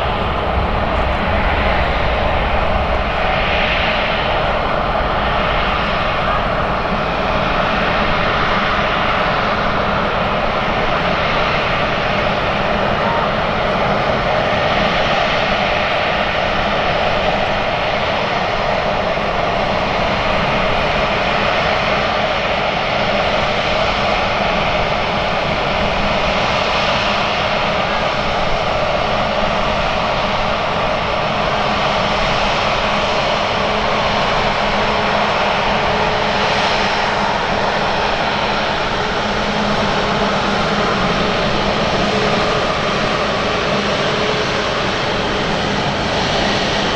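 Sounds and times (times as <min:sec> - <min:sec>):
jet engines running: 0:00.0 - 0:46.9.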